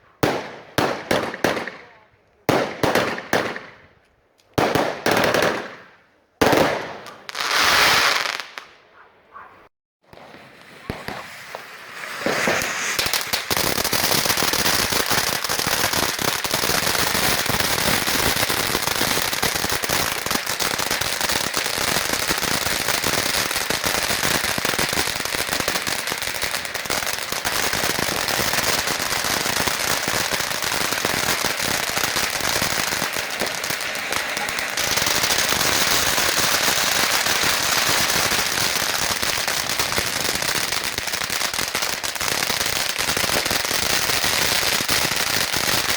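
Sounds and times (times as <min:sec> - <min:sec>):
firecrackers and fireworks cracking: 0:00.0 - 0:08.8, 0:10.0 - 0:45.9.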